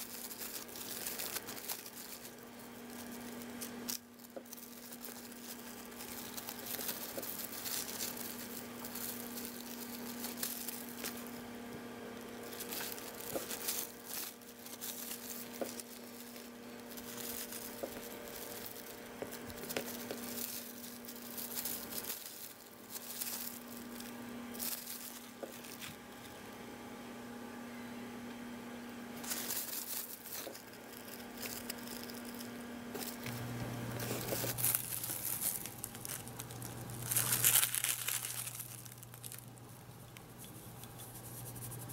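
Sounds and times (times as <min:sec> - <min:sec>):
cling film crinkling: 0:00.0 - 0:26.4, 0:29.2 - 0:41.9.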